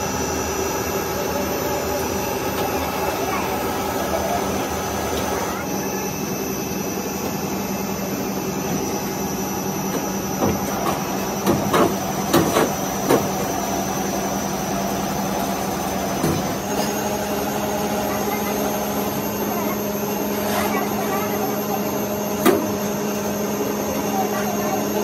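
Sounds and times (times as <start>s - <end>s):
extruder machine hum: 0.0s - 25.0s.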